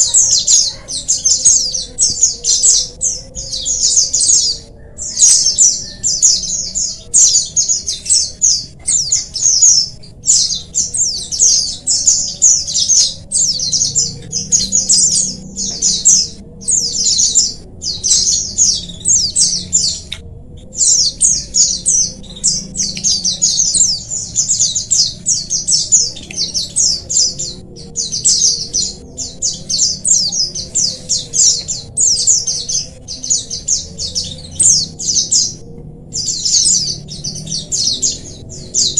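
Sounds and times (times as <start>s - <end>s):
flock of birds twittering: 0.0s - 38.9s.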